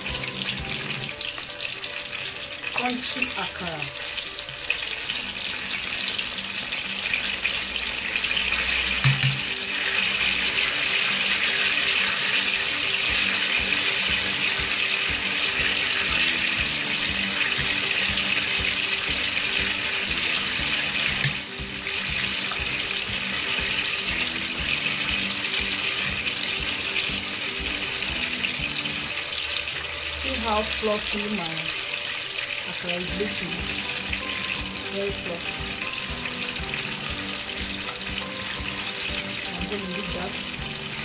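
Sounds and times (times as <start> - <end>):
hot oil sizzling in a pan: 0.0 - 41.0.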